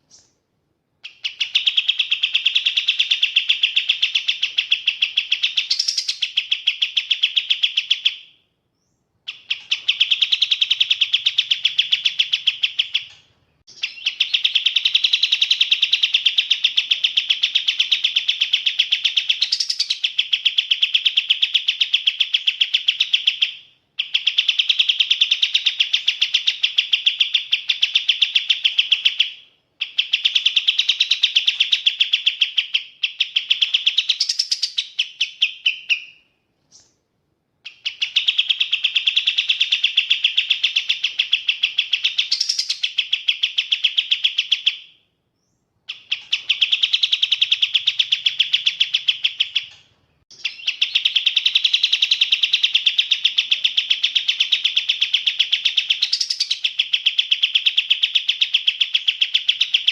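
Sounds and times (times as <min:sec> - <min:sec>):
songbird singing high notes: 0:01.0 - 0:36.9, 0:37.7 - 0:59.9.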